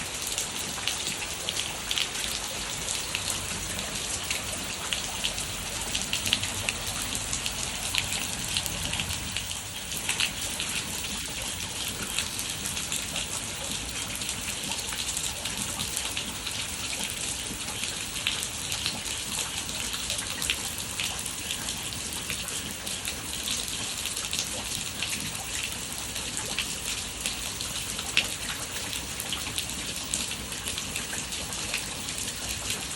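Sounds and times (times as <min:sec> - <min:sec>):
rain ticking on hard surface: 0:00.0 - 0:32.9.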